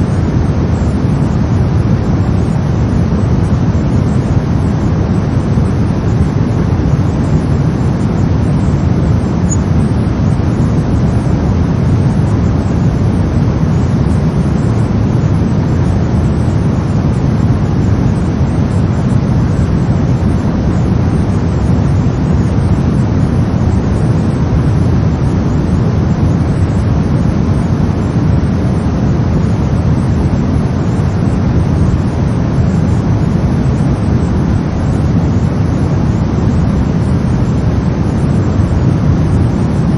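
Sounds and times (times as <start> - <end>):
brown noise rumbling hiss: 0.0 - 39.9.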